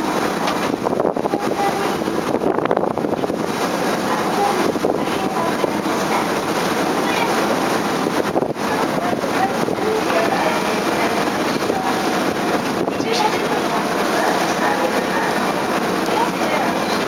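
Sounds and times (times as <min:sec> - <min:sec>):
faint voices: 0:00.0 - 0:02.4, 0:03.3 - 0:17.0
ship engine running: 0:00.0 - 0:17.0
water rushing: 0:00.0 - 0:17.0
wind on microphone: 0:00.0 - 0:17.0.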